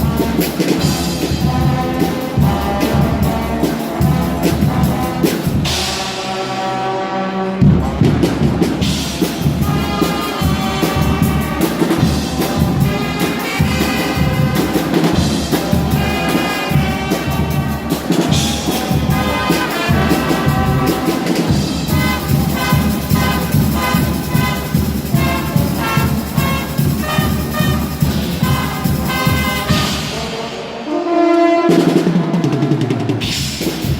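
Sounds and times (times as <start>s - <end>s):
driving drumbeat: 0.0s - 6.6s, 7.6s - 31.0s, 31.7s - 33.9s
trumpets and trombones: 0.0s - 33.9s.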